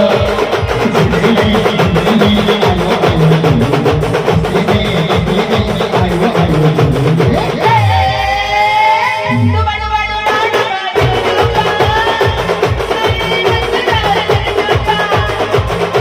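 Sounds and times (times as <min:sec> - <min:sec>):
band music with fast drumbeat: 0:00.0 - 0:16.0.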